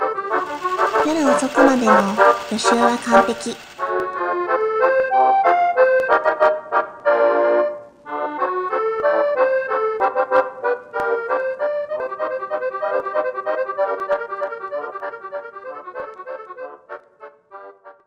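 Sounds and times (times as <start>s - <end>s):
instrumental soundtrack music: 0.0s - 18.0s.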